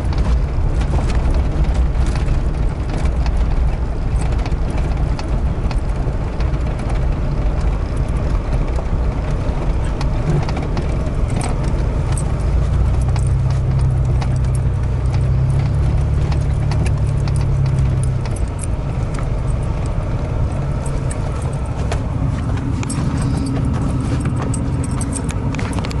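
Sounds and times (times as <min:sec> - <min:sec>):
cab rattling and clicking: 0:00.0 - 0:26.0
vehicle engine and tyre drone: 0:00.0 - 0:26.0.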